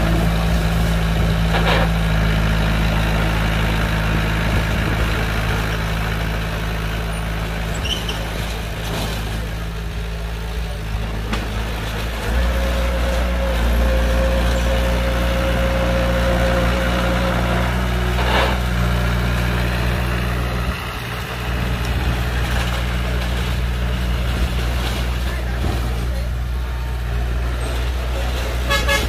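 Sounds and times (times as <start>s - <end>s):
heavy diesel machinery engine: 0.0s - 29.0s.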